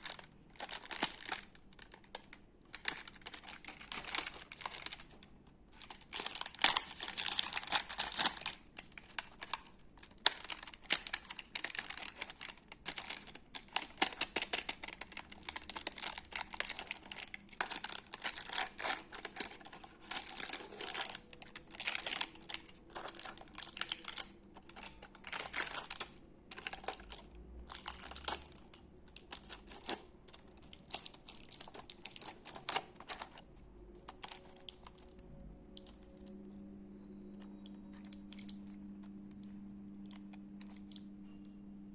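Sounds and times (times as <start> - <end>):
crinkling of wrappers: 0.0 - 41.6.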